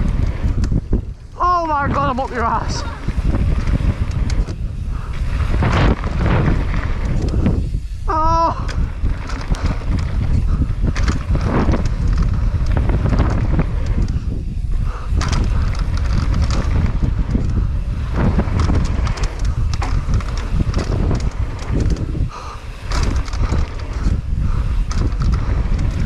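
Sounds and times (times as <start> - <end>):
bike rattling and knocking: 0.0 - 26.0
bike tyres rumbling on dirt: 0.0 - 26.0
wind buffeting microphone: 0.0 - 26.0.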